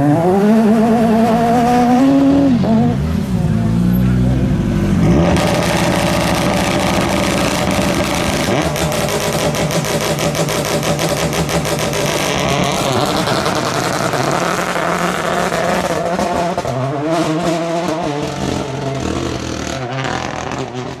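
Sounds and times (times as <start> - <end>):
rally car engine at high revs: 0.0 - 21.0.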